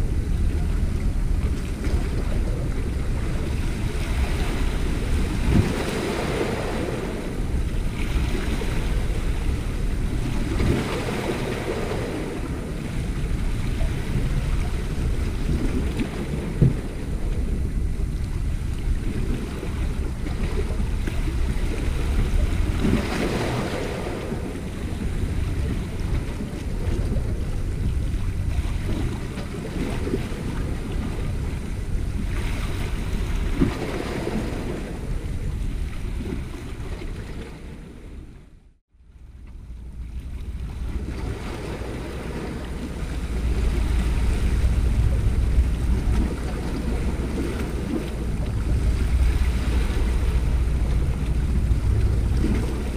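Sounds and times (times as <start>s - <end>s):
waves washing against rocks: 0.0s - 38.0s, 39.8s - 52.9s
wind buffeting microphone: 0.0s - 38.5s, 39.2s - 52.9s.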